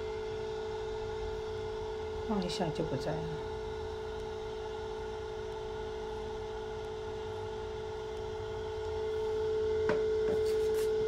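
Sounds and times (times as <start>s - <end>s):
incubator humming: 0.0s - 11.0s.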